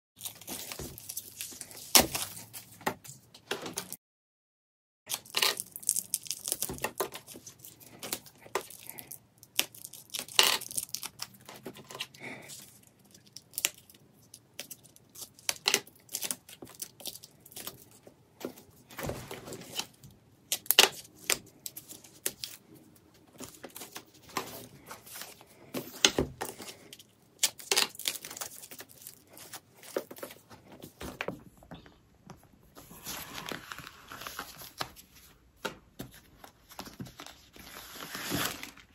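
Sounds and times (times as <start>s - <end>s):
wrapping crinkling and ripping: 0.2s - 2.8s, 5.1s - 18.1s, 18.8s - 30.5s, 32.8s - 35.3s, 36.6s - 38.9s.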